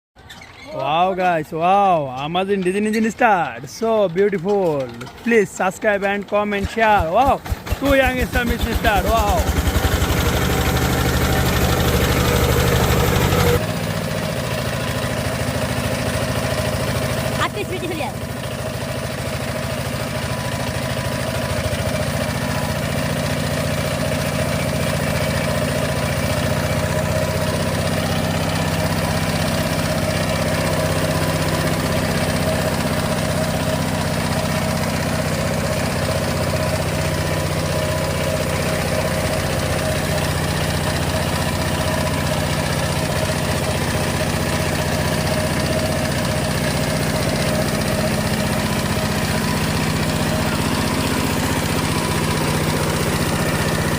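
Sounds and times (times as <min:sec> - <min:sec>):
diesel engine idling: 0:00.7 - 0:53.9.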